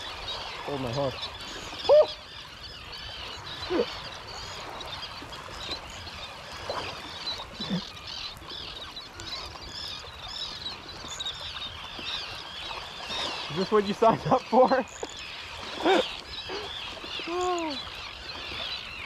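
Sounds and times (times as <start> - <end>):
seabirds calling: 0.0 - 19.0.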